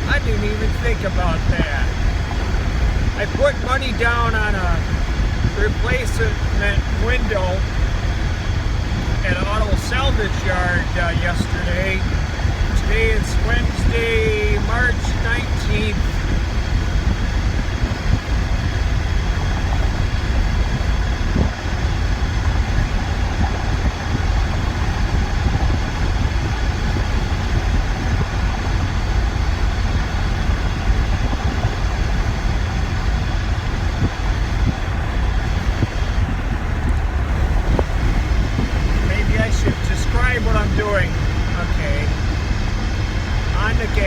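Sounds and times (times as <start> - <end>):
pickup cab driving noise: 0.0 - 44.0.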